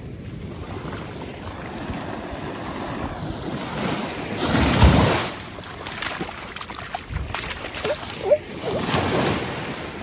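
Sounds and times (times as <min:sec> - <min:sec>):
small waves washing: 0:00.0 - 0:10.0.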